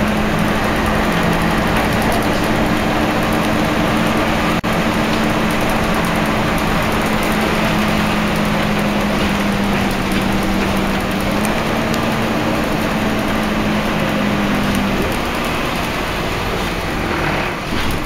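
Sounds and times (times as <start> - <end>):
diesel bus engine humming: 0.0 - 18.0
road and body noise: 0.0 - 18.0.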